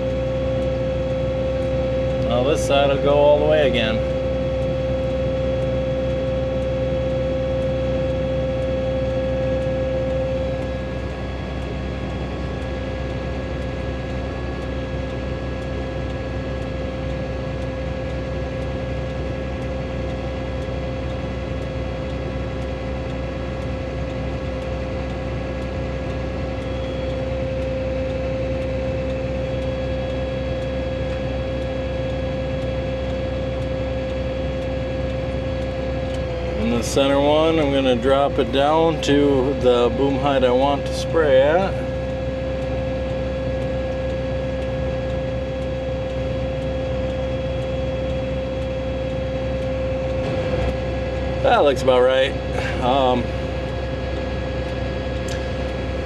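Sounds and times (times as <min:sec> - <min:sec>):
hydraulic whine: 0:00.0 - 0:56.0
tractor engine running: 0:00.0 - 0:56.0.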